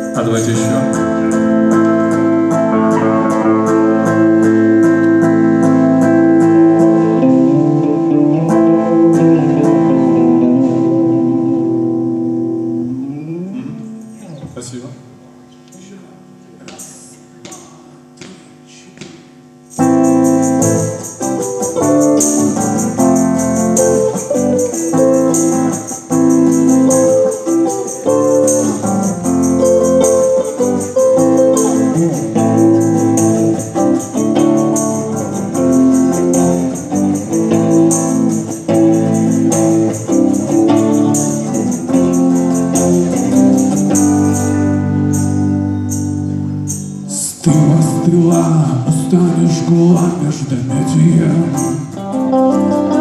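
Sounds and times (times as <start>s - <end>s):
keyboard chords: 0.0s - 14.5s, 19.6s - 53.0s
live band playing: 0.0s - 14.5s, 19.7s - 53.0s.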